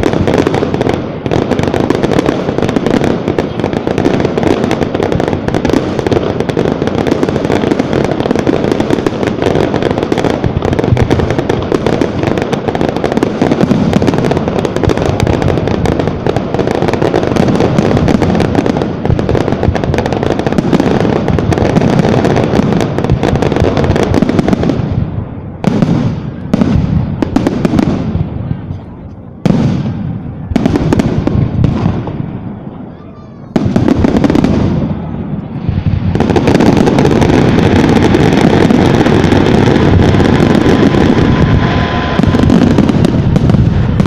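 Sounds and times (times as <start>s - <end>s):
fireworks bangs and crackling: 0.0s - 44.0s.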